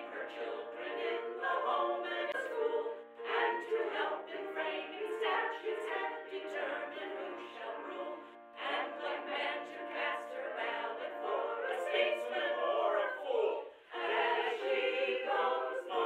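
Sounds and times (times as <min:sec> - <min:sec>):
choir singing unaccompanied: 0:00.0 - 0:16.0.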